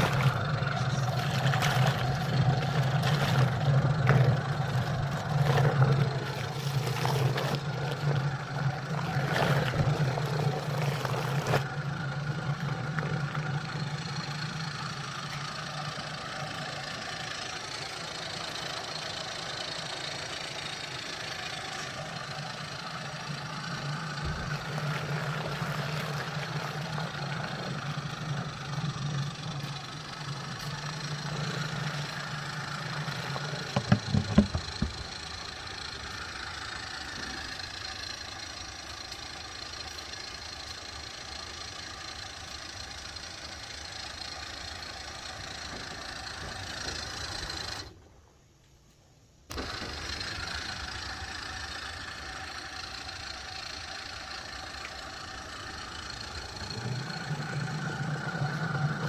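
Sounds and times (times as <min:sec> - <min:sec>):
small motor humming: 0:00.0 - 0:48.1, 0:49.4 - 0:59.0.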